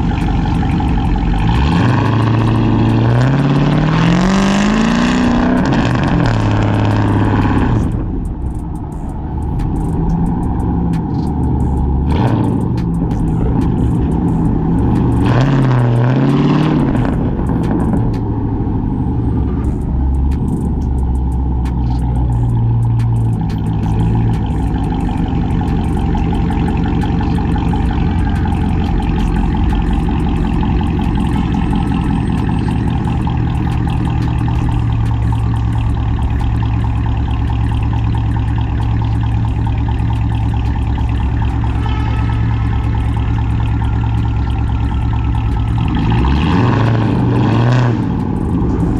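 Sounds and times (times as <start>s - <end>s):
loud car exhaust rumble: 0.0s - 48.9s.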